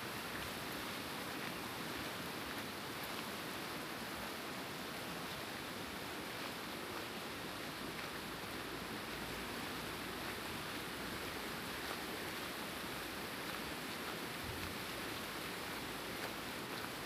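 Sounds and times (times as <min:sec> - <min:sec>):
white-water river rushing: 0:00.0 - 0:17.0.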